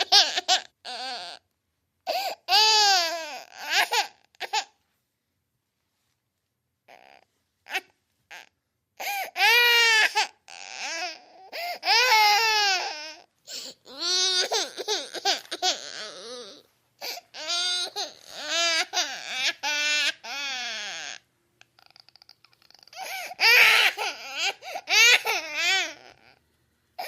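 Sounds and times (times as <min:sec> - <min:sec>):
baby crying: 0:00.0 - 0:01.4, 0:02.0 - 0:04.8, 0:06.9 - 0:26.4.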